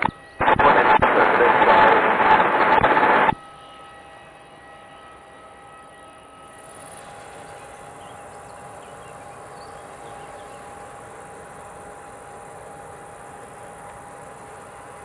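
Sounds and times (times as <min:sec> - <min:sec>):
jet engines idling with whine: 0:00.0 - 0:15.0.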